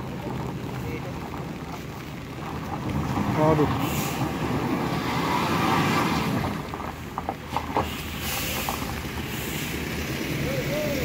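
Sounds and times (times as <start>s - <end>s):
tyres crunching on gravel: 0.0s - 11.0s.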